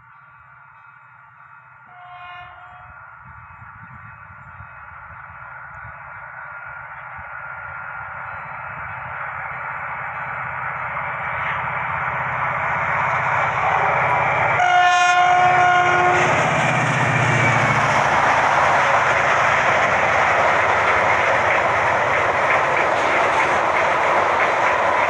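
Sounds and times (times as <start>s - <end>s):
low throbbing locomotive engine: 0.0s - 25.0s.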